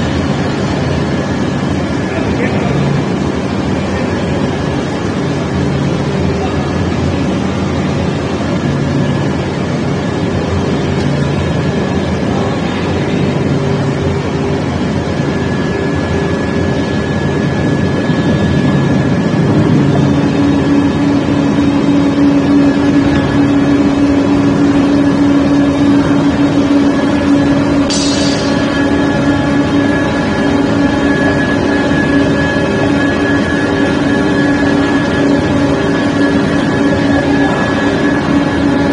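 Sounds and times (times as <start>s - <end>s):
ring rolling machine drone: 0.0s - 38.9s.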